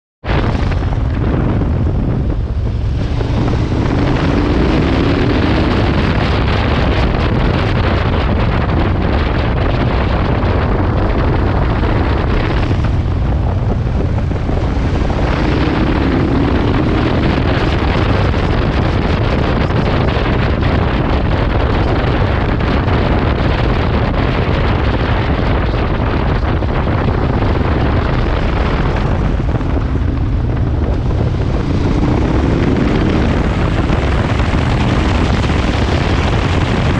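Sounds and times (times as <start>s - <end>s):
motorcycle engine accelerating: 0.2s - 36.9s
wind rushing over microphone: 0.2s - 36.9s.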